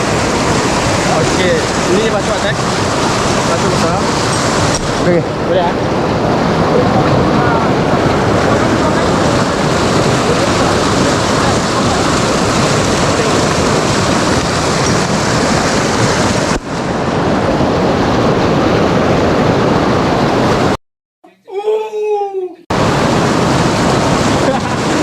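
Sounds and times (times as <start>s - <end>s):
waterfall rushing: 0.0s - 20.8s, 22.7s - 25.0s.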